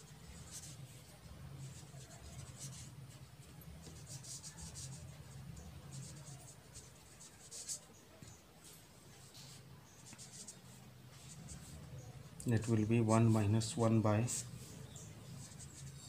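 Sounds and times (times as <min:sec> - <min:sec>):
pen scratching on paper: 0:00.0 - 0:08.4, 0:09.1 - 0:12.1, 0:13.2 - 0:16.0
faint low hum: 0:00.0 - 0:16.0.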